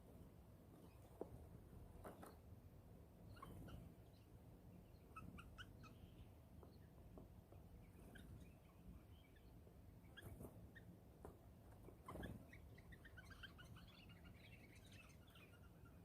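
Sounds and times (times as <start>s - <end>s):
small birds chirping: 0.7s - 2.5s, 3.1s - 16.0s.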